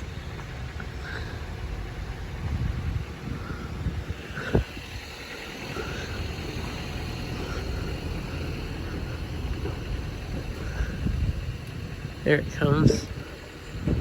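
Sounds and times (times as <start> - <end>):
vehicle rumble: 0.0 - 14.0
wind rumbling on microphone: 0.0 - 14.0.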